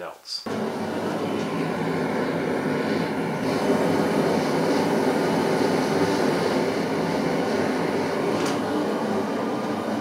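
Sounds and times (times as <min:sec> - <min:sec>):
gas burner flame roaring: 0:00.5 - 0:10.0.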